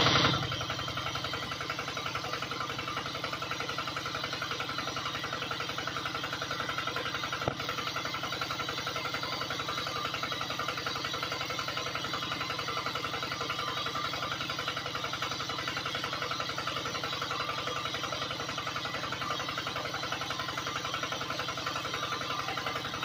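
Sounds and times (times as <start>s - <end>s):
small water pump motor pulsing: 0.0s - 23.0s.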